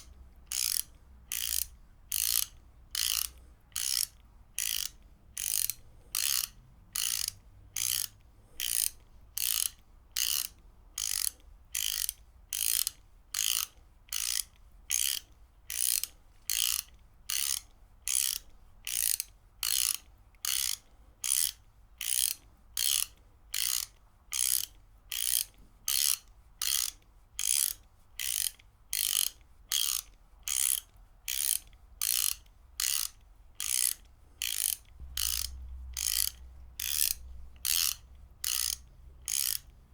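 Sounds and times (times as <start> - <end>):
ratchet wrench clicking: 0.0 - 39.8.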